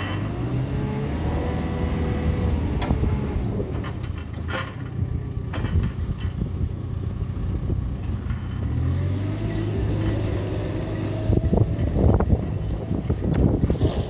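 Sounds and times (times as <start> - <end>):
diesel engine revving: 0.0 - 4.8, 6.8 - 14.0.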